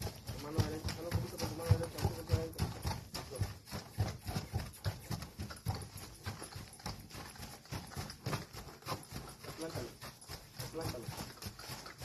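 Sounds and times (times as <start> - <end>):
horse hooves on dirt: 0.0 - 12.0.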